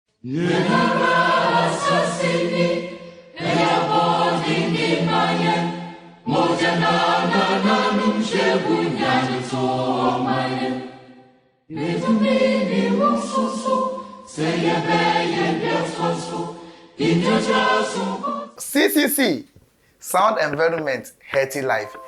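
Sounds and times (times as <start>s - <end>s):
group of voices singing: 0.2s - 19.4s.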